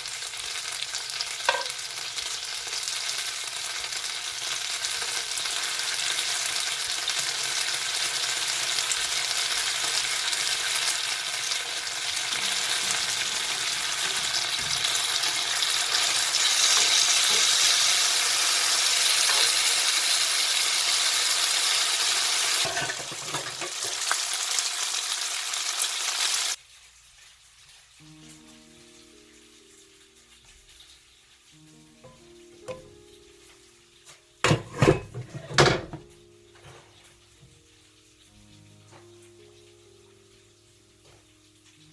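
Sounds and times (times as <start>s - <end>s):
food sizzling in a hot pan: 0.0s - 41.9s.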